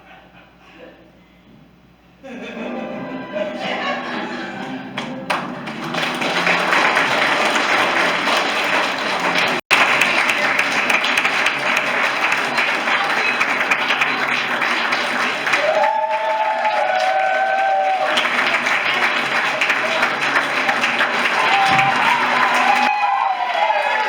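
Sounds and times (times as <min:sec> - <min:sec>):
audience applauding: 0:02.9 - 0:24.0.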